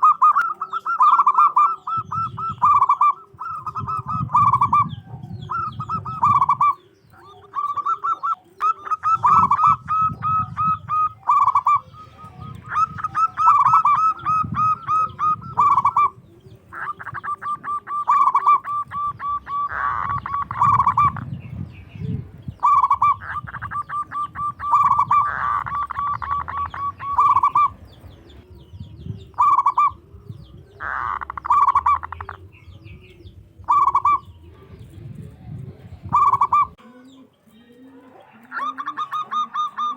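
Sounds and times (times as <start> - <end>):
dove rolling coos: 0.0 - 39.9.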